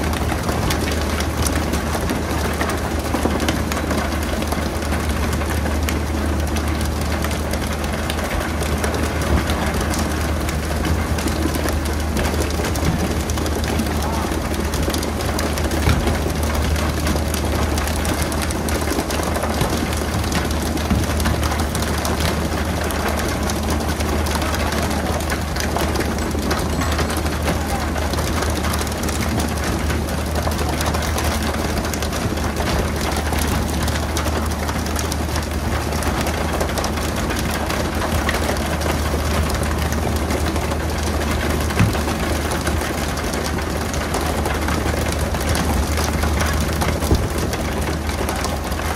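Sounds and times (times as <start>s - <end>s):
boat engine humming: 0.0s - 48.9s.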